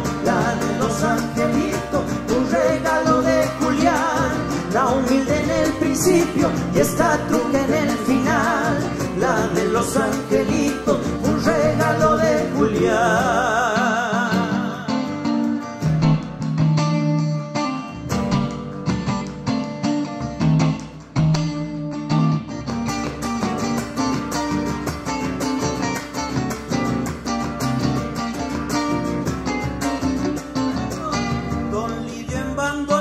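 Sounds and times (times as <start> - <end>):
strummed acoustic guitar: 0.0 - 33.0.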